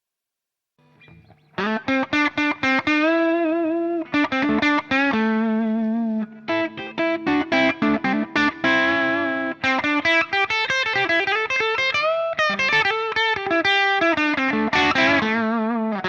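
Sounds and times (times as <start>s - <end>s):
overdriven electric guitar lead: 0.9s - 16.0s.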